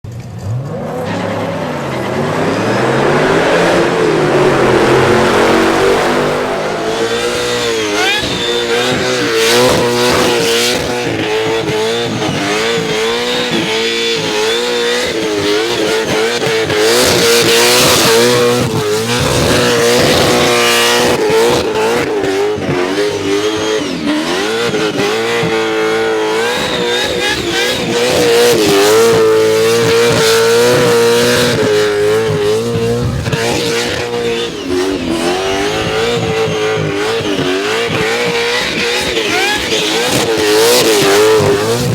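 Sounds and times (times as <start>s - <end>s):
car engine revving high: 0.3s - 41.9s.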